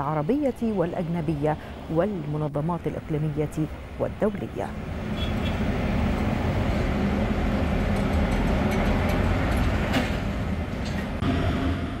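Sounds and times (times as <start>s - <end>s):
heavy vehicle engine rumbling: 0.0s - 12.0s.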